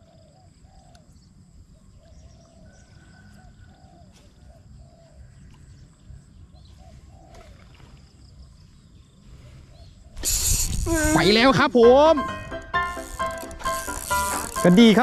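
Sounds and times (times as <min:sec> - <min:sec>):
birds calling: 0:00.0 - 0:12.2.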